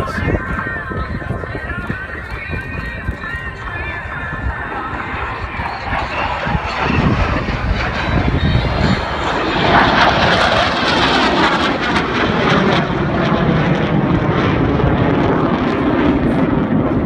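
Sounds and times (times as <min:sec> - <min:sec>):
fighter jets passing: 0:00.0 - 0:17.0.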